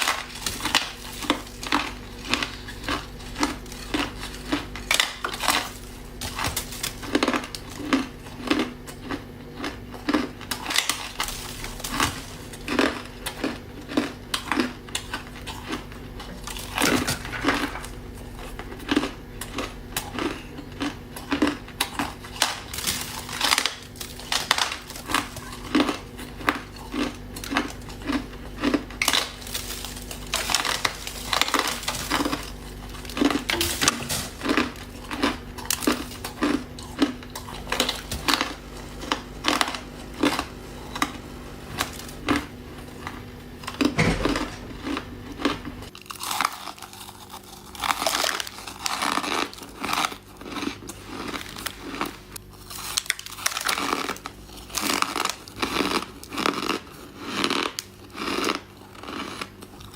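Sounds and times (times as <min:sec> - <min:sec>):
faint low hum: 0:00.0 - 0:59.9
ice being chewed: 0:00.0 - 0:59.9.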